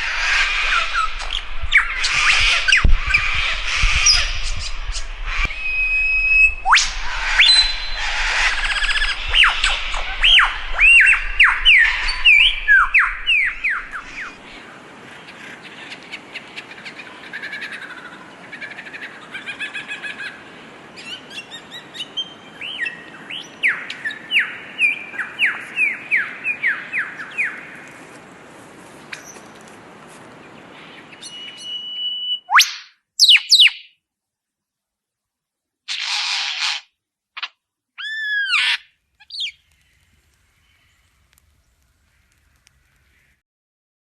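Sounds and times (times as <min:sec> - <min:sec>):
songbird singing: 0:00.0 - 0:28.4, 0:29.0 - 0:29.7, 0:30.3 - 0:34.0, 0:37.4 - 0:43.4.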